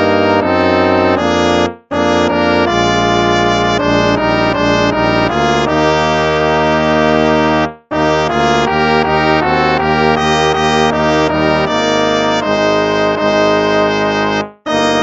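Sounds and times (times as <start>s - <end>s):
brass hymn with held chords: 0.0s - 15.0s.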